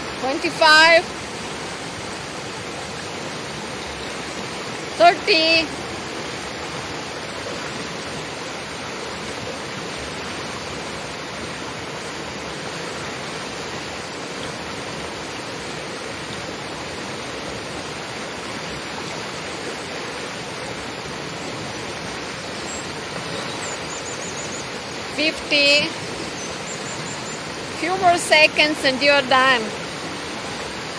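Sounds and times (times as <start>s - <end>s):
river rushing: 0.0s - 30.9s.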